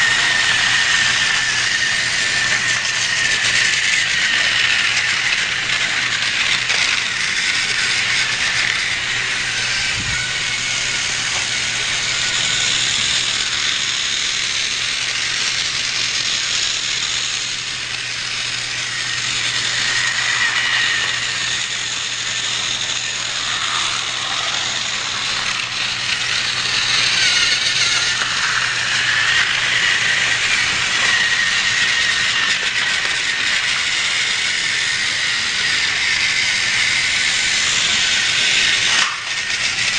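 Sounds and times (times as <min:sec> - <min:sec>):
toy train motor whirring: 0:00.0 - 0:39.9.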